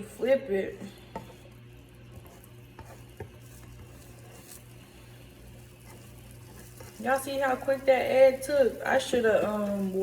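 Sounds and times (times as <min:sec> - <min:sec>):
low steady hum: 0:00.0 - 0:10.0
omelet sizzling in a pan: 0:00.0 - 0:10.0.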